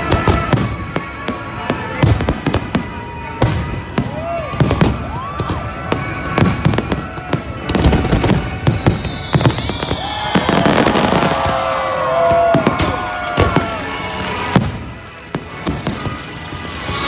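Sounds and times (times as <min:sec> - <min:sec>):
firework whistle falling in pitch: 0:00.0 - 0:17.0
fireworks banging: 0:00.0 - 0:17.0
music soundtrack: 0:00.0 - 0:17.0.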